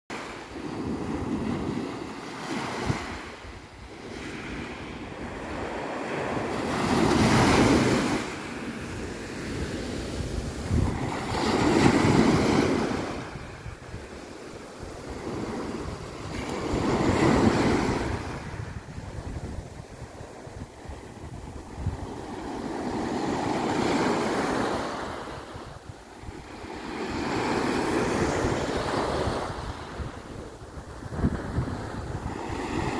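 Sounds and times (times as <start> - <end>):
small waves breaking on beach: 0.1 - 32.9.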